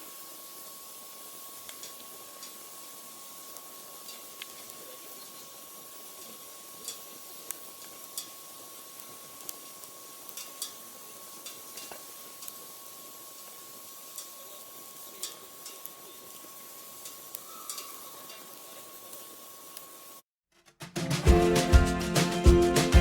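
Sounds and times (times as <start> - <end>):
wood fire crackling: 0.0 - 20.2.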